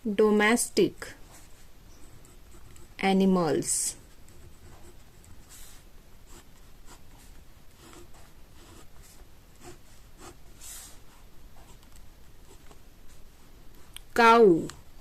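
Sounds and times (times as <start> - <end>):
low background hum: 0.0 - 15.0
scratching and rubbing strokes: 1.0 - 13.6.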